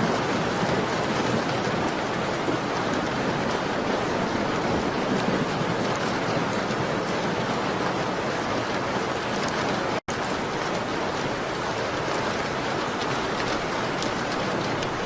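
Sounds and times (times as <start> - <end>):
rain pattering on window glass: 0.0 - 15.0.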